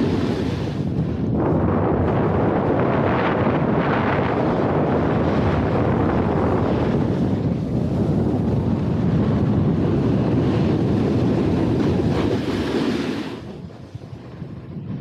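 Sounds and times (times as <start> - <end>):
snowboard sliding over snow: 0.0 - 15.0
wind buffeting microphone: 0.0 - 15.0.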